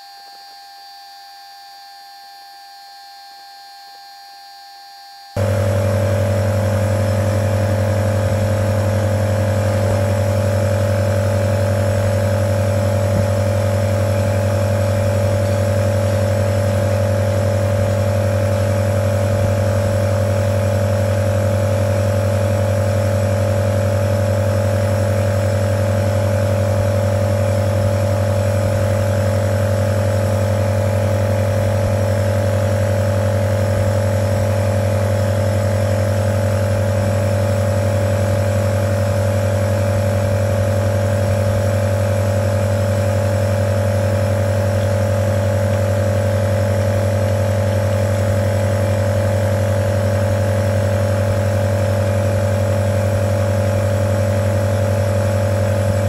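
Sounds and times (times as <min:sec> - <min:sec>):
nebulizer compressor humming: 0:00.0 - 0:56.0.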